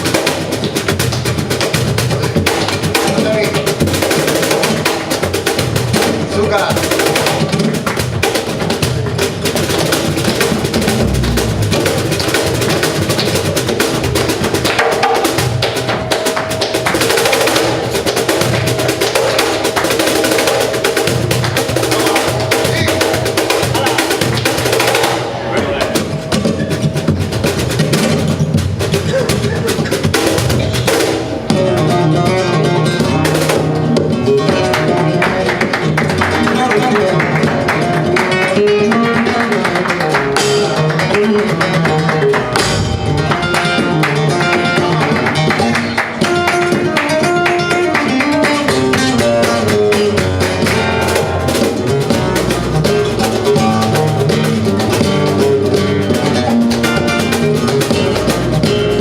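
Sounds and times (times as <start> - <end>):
flamenco guitar playing: 0.0 - 59.0
percussive guitar strikes: 0.0 - 59.0.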